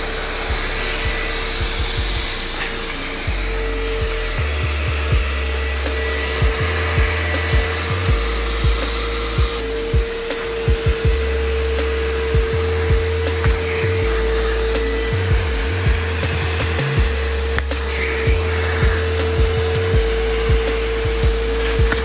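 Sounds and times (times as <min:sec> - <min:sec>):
background music with beat: 0:00.0 - 0:22.0
carpet extractor motor whine: 0:00.0 - 0:22.0
water spraying and sucking: 0:00.0 - 0:22.0.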